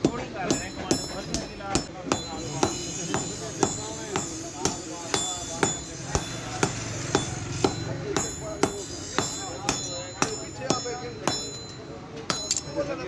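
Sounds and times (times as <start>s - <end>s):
hammer striking metal on anvil: 0.0s - 13.0s.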